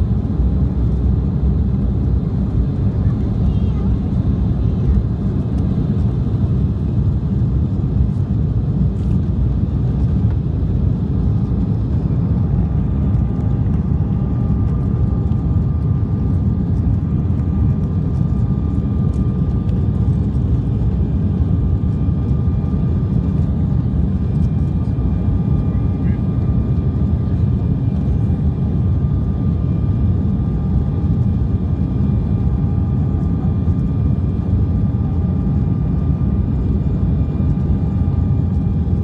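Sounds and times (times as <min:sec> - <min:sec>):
jet engines and airflow rumble: 0:00.0 - 0:39.0.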